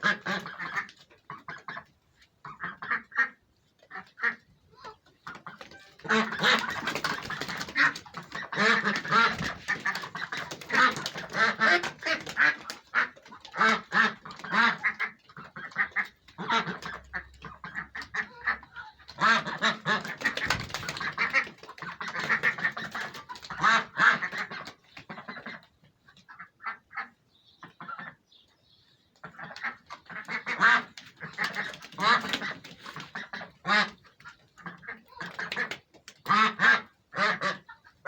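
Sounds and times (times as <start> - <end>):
ducks quacking: 0.0 - 28.4, 29.2 - 38.0.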